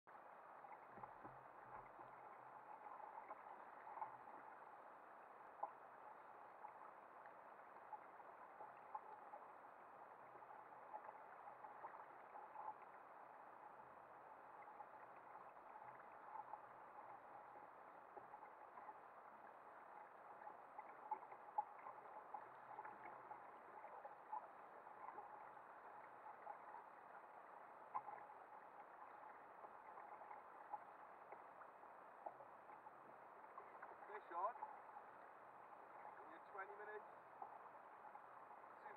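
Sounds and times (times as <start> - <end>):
water lapping against hull: 0.1 - 38.9.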